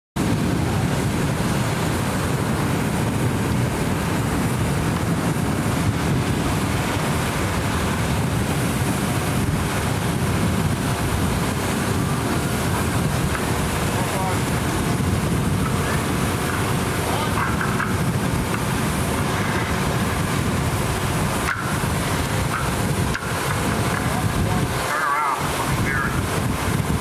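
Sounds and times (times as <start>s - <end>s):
wind buffeting microphone: 0.2s - 27.0s.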